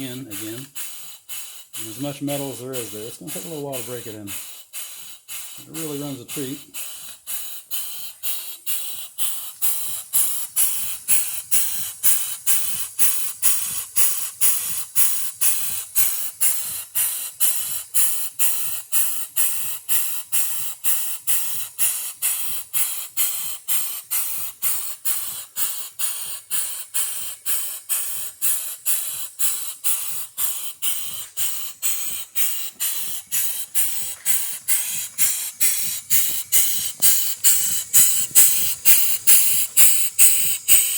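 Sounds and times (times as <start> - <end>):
steam engine exhaust puffing: 0.0 - 40.9.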